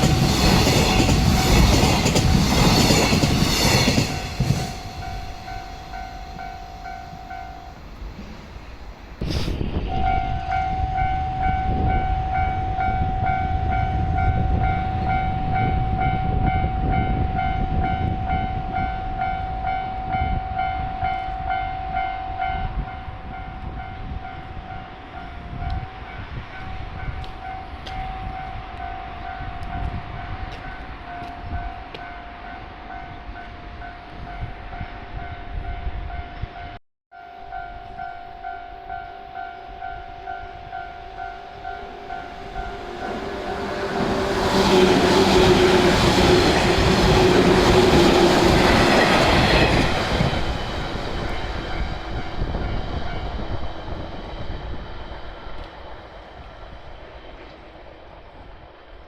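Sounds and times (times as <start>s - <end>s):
level-crossing warning bell: 0.0s - 8.1s, 9.9s - 54.0s
train rumbling: 0.0s - 36.8s, 37.4s - 59.0s.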